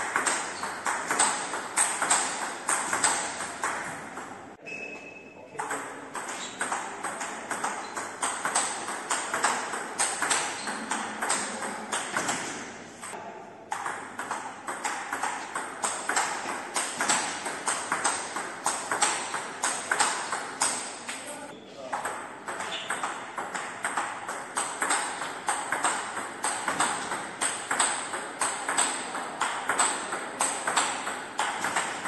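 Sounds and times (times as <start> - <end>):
ping pong ball hitting bats: 0.0 - 21.2, 21.8 - 32.0
ball bouncing on table: 0.1 - 4.4, 5.6 - 21.2, 21.9 - 32.0.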